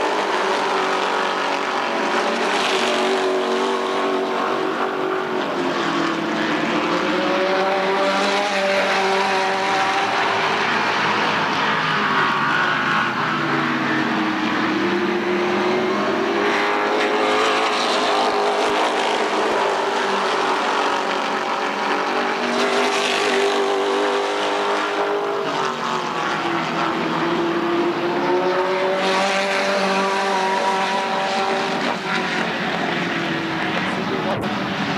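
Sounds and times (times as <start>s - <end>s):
race car engine: 0.0s - 34.9s.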